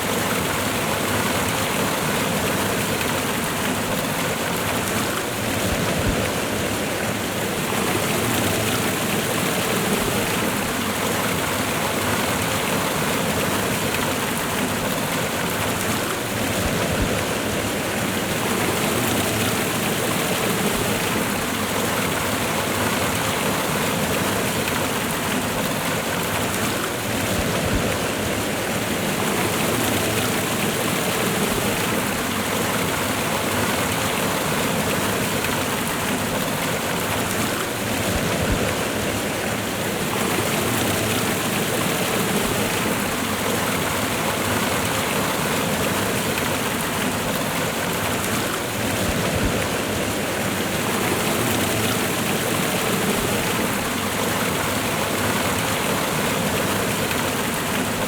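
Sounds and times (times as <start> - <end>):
waterfall and rushing river: 0.0 - 58.0.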